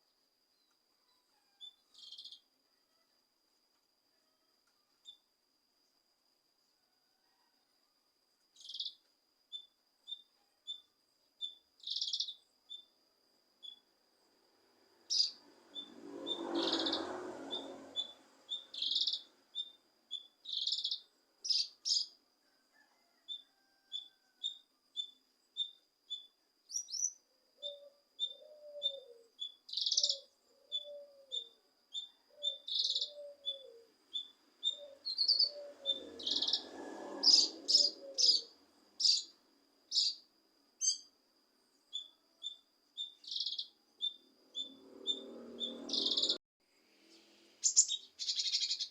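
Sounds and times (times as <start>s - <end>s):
songbird chirping: 0.0s - 3.1s, 8.4s - 13.0s, 13.6s - 48.9s.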